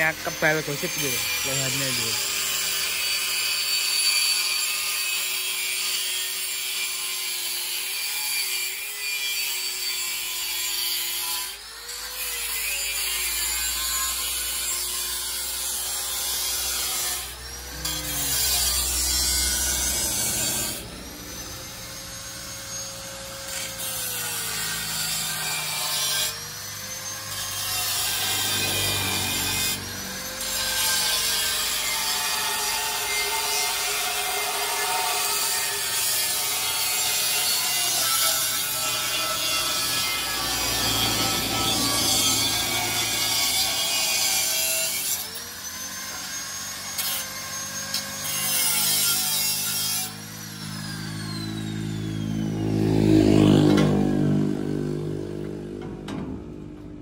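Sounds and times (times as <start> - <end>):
angle grinder cutting steel pipe: 0.0 - 57.0.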